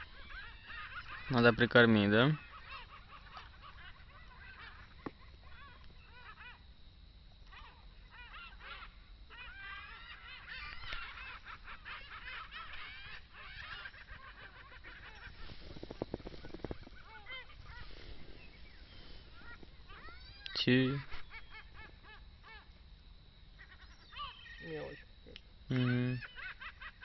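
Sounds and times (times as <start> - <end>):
flock of birds calling: 0.0 - 6.7, 7.4 - 22.8, 23.4 - 27.0.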